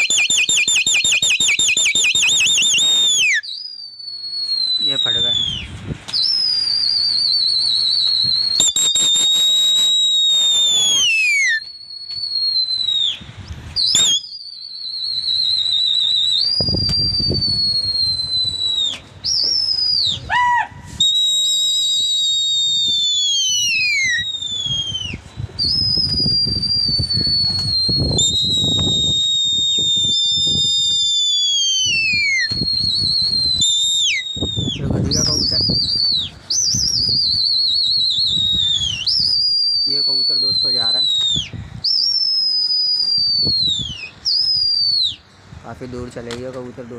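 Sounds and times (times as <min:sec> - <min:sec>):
shrill human whistles: 0:00.0 - 0:45.2.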